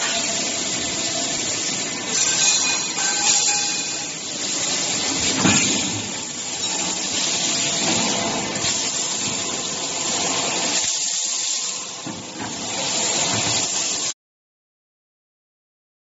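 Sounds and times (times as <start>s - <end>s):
welding machine hissing: 0.0s - 14.2s.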